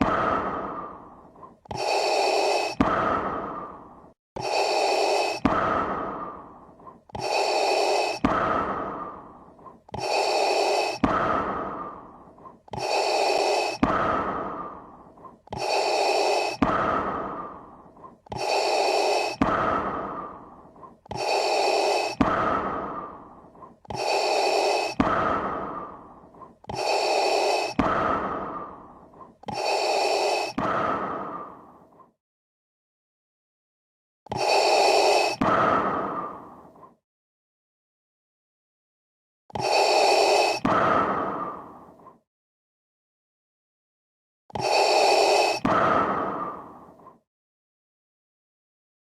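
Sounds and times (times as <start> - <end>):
mechanical respirator breathing: 0.0 - 32.2, 34.3 - 37.0, 39.5 - 42.2, 44.5 - 47.2.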